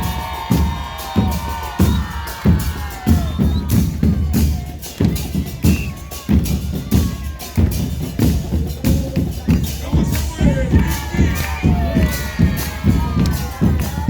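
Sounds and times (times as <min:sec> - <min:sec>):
bass drums beating: 0:00.0 - 0:14.0.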